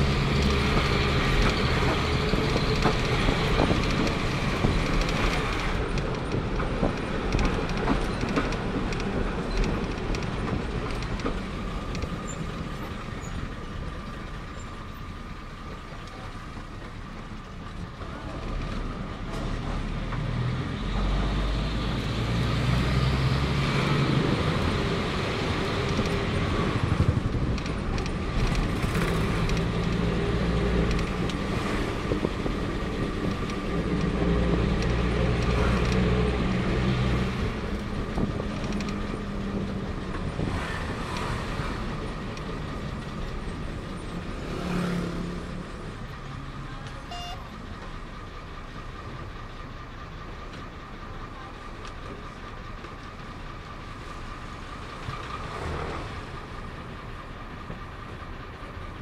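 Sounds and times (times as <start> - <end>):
bus engine revving: 0.0 - 14.0, 18.1 - 59.0
road rumble: 0.0 - 59.0.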